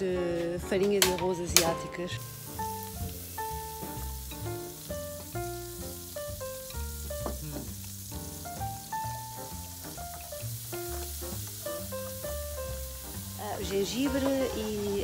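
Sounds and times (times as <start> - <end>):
background music with bass line: 0.0 - 15.0
food sizzling in hot oil: 1.0 - 15.0.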